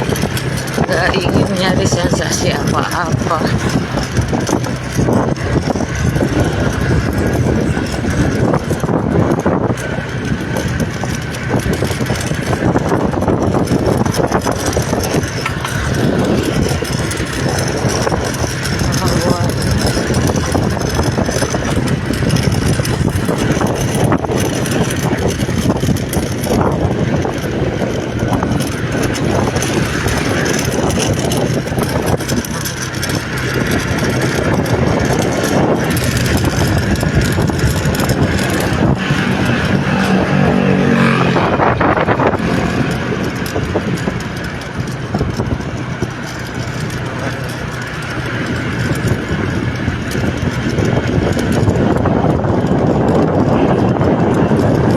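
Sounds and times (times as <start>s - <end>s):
louder pitched engine: 0.0s - 54.9s
vehicle engine and traffic hum: 0.0s - 54.9s.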